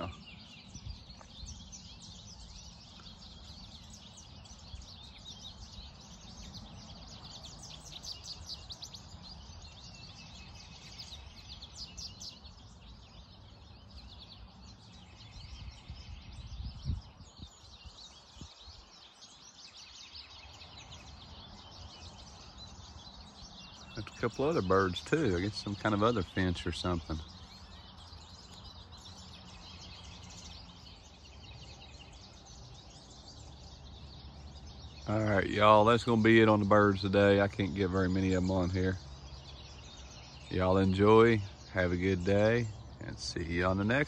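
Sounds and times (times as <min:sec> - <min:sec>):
finches chirping: 0:00.0 - 0:44.0.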